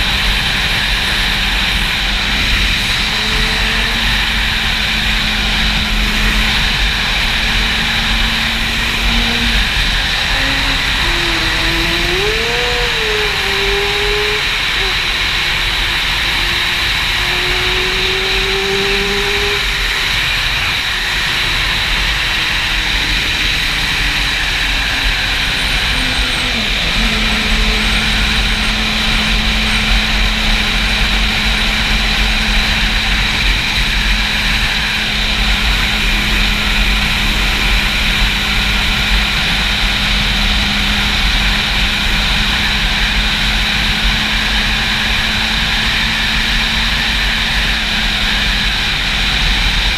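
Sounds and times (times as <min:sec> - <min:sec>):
motorcycle engine: 0:00.0 - 0:49.9
wind noise on microphone: 0:00.0 - 0:49.9.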